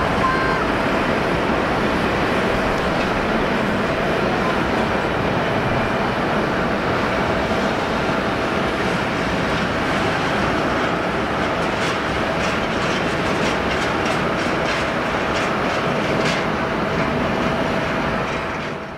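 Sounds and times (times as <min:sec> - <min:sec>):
jet engines roaring: 0:00.0 - 0:18.9.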